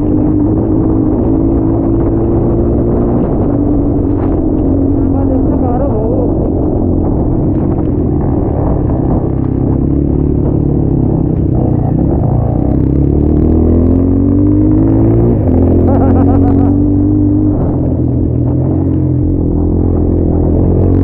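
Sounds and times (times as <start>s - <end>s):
dirt bike engine accelerating: 0.0s - 21.0s.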